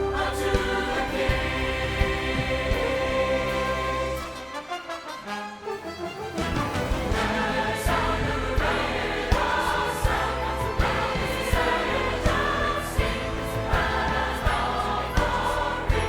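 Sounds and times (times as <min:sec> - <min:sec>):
choir singing with instruments: 0:00.0 - 0:16.0.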